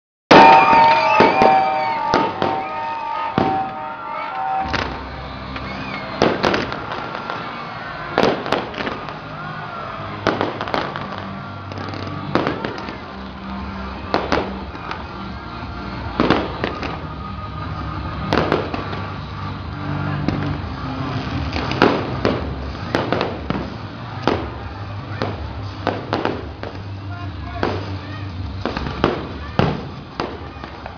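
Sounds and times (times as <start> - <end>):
fireworks bursting: 0.3 - 30.9
music playing: 0.3 - 30.9.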